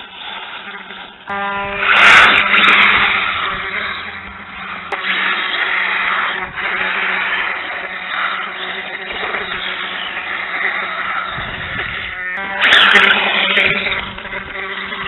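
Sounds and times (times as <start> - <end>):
steady low hum: 0.0 - 15.0
toy dirt bike motor whirring: 0.0 - 15.0.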